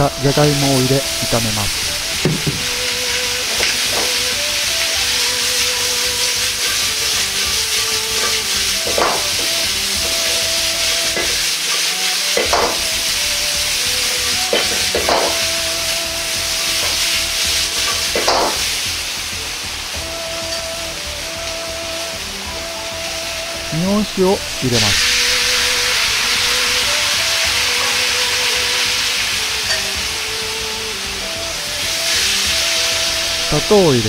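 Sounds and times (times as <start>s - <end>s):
vegetables sizzling in wok: 0.0s - 34.0s.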